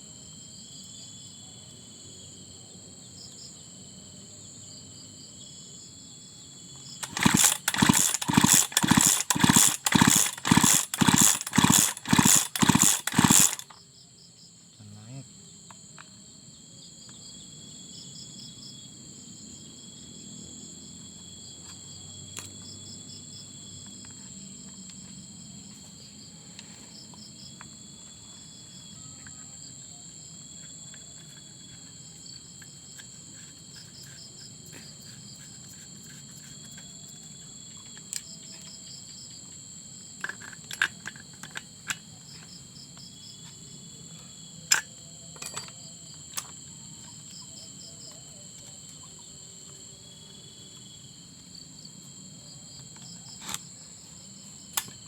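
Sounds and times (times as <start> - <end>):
insects chirping and trilling: 0.0 - 55.0.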